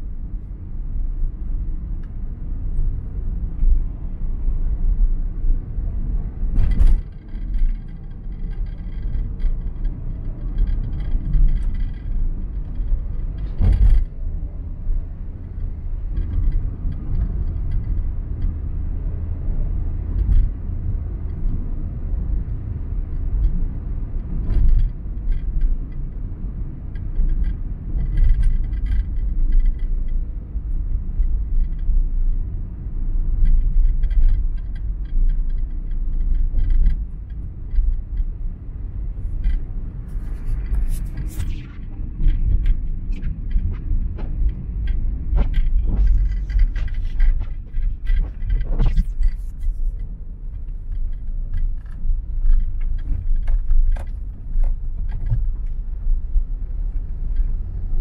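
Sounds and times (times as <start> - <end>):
car road rumble on wet road: 0.0 - 58.0.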